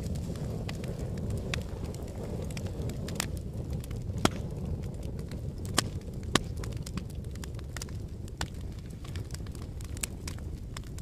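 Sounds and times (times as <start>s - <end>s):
fire crackles: 0.0s - 11.0s
loud fire pops: 0.0s - 11.0s
wood fire burning: 0.0s - 11.0s.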